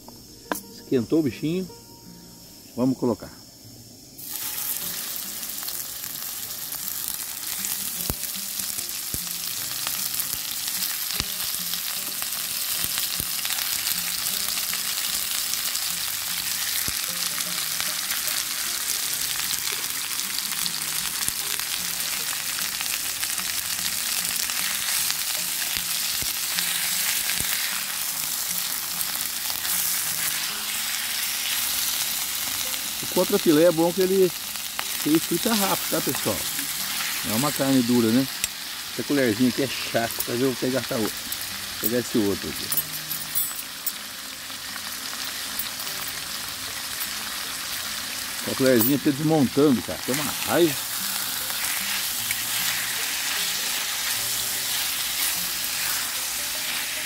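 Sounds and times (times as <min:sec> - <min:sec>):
meat sizzling in oil: 0:03.4 - 0:57.0.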